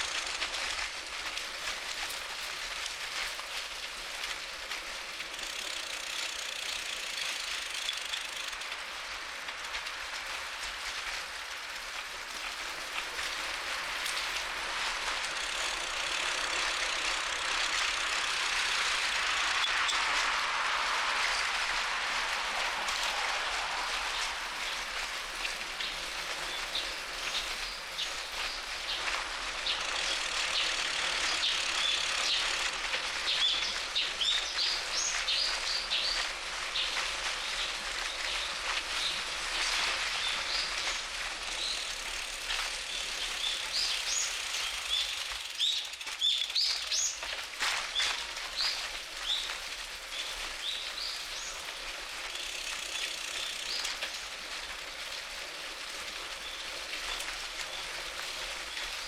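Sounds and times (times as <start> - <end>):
bicycle tyre and wind noise: 0.0 - 59.0.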